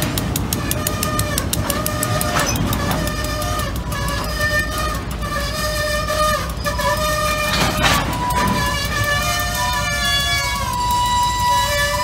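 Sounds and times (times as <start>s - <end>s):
railcars rolling past: 0.0s - 12.0s
steel wheels clicking over rail: 0.0s - 12.0s
high squealing tones: 0.4s - 12.0s.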